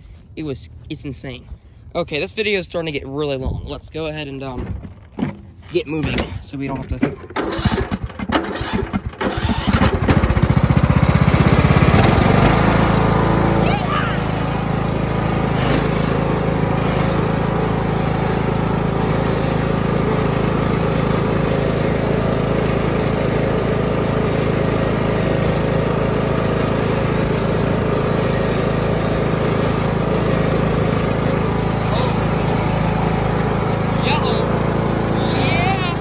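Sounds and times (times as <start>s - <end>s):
riding lawn mower engine: 4.2s - 36.0s.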